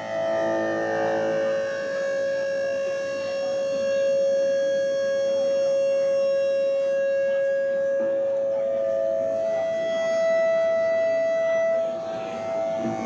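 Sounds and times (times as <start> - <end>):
electronic tone drone: 0.0 - 13.0.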